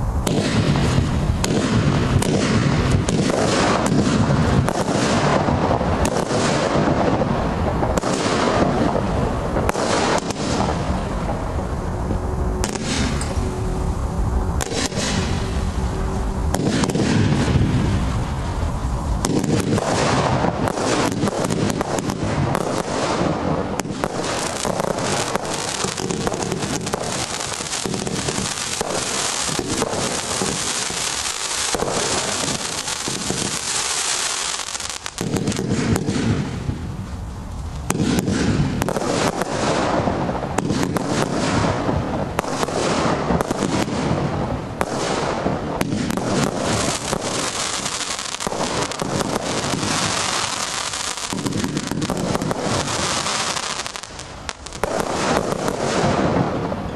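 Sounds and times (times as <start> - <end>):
firework crackling: 0.0 - 56.9
firework launch shots and bursts: 0.0 - 56.9.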